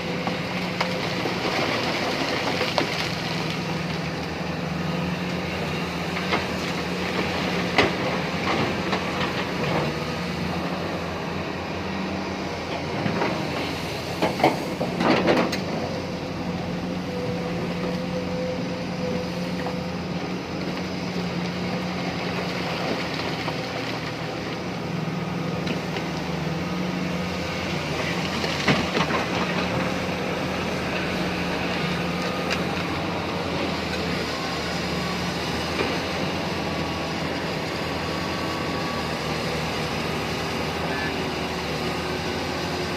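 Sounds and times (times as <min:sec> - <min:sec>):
excavator diesel engine humming: 0:00.0 - 0:42.9.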